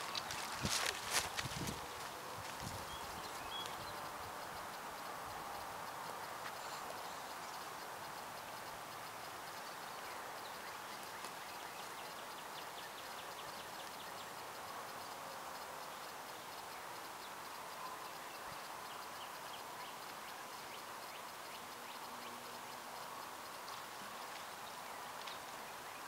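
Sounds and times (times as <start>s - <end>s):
background hiss: 0.0s - 26.0s
high ticking animal calls: 0.0s - 26.0s.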